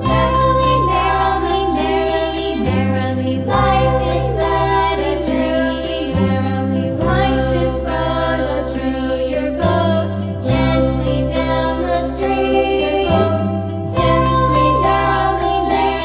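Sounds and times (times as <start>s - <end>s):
music with singing: 0.0s - 16.0s
steady bass line: 0.0s - 16.0s.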